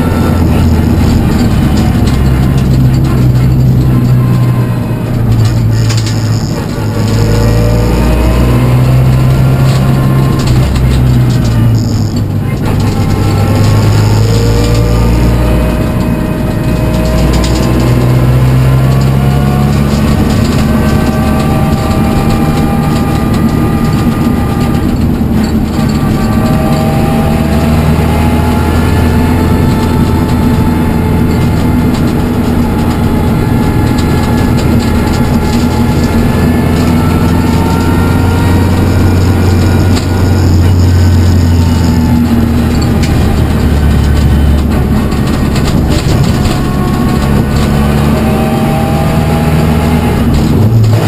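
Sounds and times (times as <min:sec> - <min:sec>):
rally car engine revving: 0:00.0 - 0:51.0
road and wind noise: 0:00.0 - 0:51.0.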